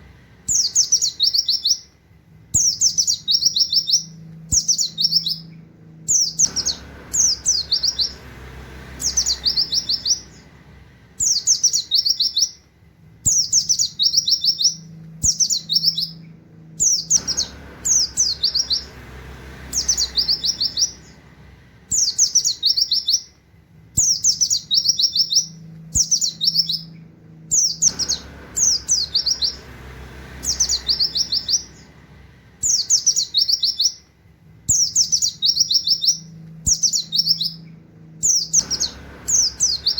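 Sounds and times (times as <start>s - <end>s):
bird singing rapid high notes: 0.4s - 2.0s, 2.6s - 12.7s, 13.3s - 23.4s, 24.0s - 34.1s, 34.7s - 39.9s.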